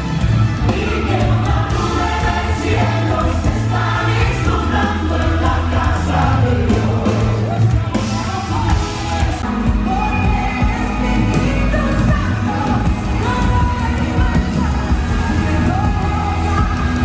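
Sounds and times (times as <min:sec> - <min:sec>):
group singing worship song: 0:00.5 - 0:17.0.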